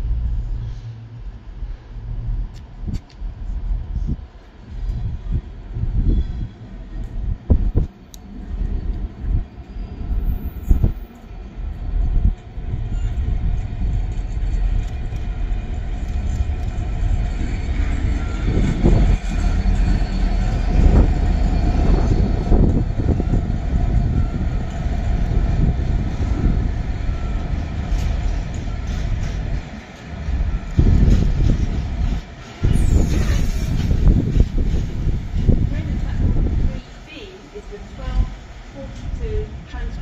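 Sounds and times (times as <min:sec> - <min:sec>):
diesel locomotive engine rumble: 0:00.0 - 0:40.0.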